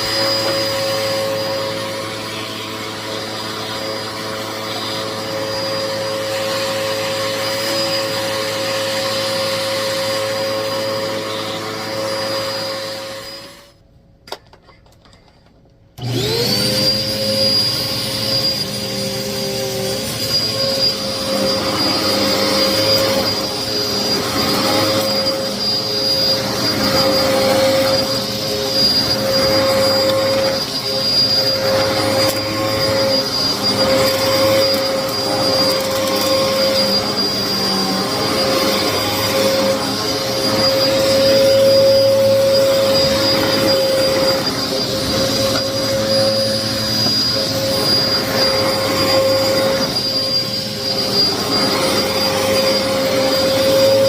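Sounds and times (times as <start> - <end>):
vacuum cleaner running: 0.0 - 13.8, 16.0 - 54.0.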